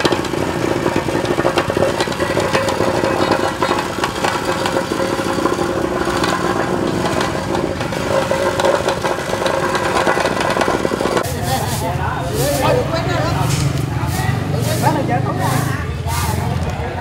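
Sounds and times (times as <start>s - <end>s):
plate compactor tamping gravel: 0.0s - 16.4s.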